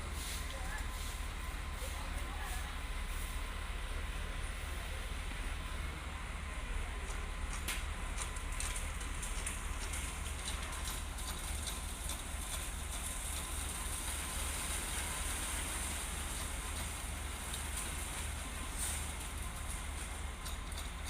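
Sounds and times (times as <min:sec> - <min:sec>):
low machine rumble: 0:00.0 - 0:21.0.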